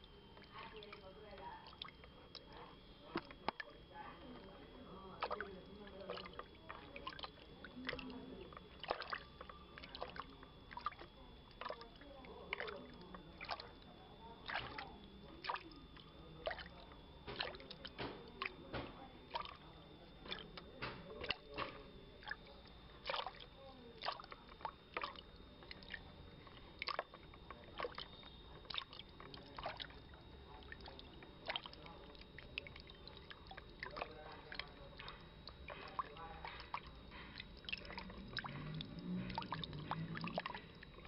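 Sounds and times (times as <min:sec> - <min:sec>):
faint voices: 0:00.0 - 0:41.0
water sloshing and splashing: 0:00.0 - 0:41.0.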